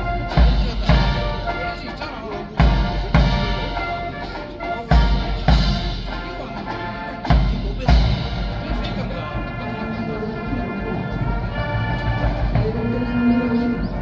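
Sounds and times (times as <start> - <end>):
heavy bass drum strokes: 0.0 - 1.9, 2.5 - 4.2, 4.9 - 6.5, 7.2 - 14.0
slow ceremonial band music: 0.0 - 14.0.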